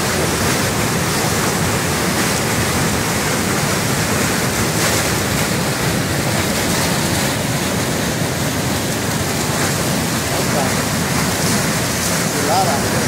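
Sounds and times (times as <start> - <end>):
whitewater crashing over rocks: 0.0 - 13.0.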